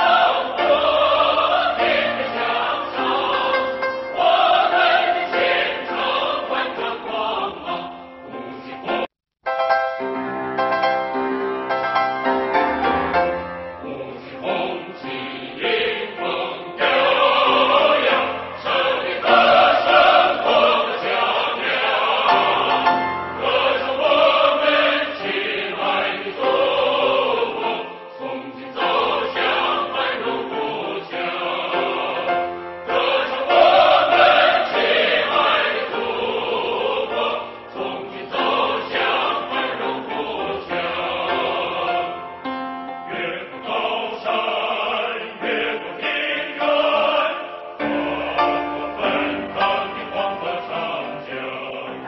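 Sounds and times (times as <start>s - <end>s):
music with singing voices: 0.0s - 9.1s, 13.3s - 52.0s.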